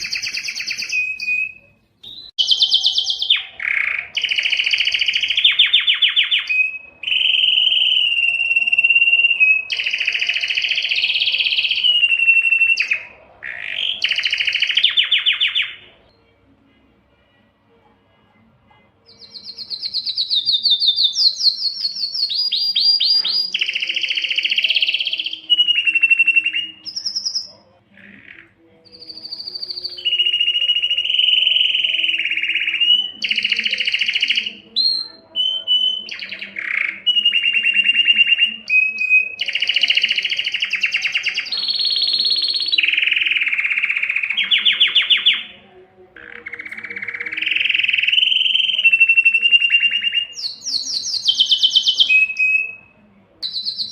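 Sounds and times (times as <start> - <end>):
canary singing trills: 0.0 - 17.5, 18.3 - 53.9.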